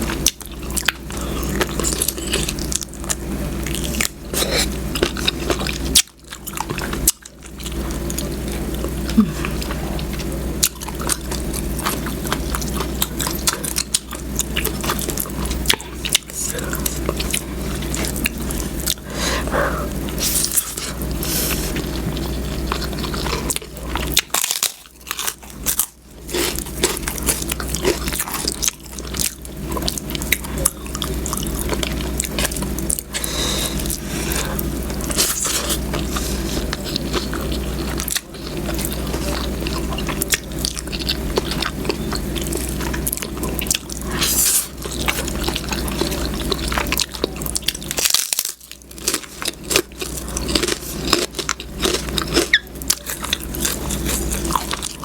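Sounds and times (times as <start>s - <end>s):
chewing and biting food: 0.0s - 55.0s
steady low hum: 0.0s - 55.0s.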